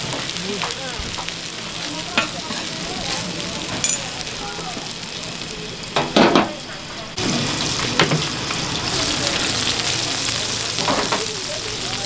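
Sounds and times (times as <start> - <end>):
dumplings sizzling on a griddle: 0.0 - 12.0.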